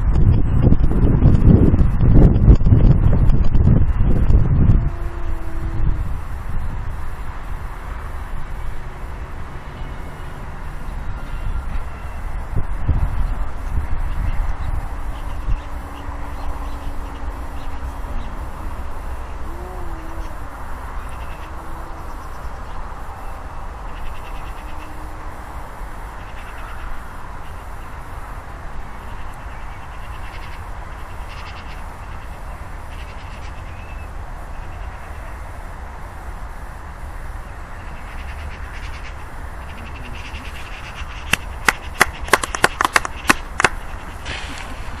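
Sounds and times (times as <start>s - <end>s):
steady outdoor hiss: 0.0s - 45.0s
wind rumbling on microphone: 0.0s - 45.0s.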